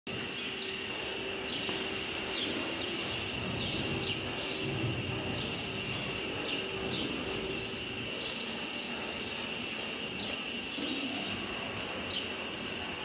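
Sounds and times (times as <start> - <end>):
mechanical drone with whine: 0.1 - 13.0.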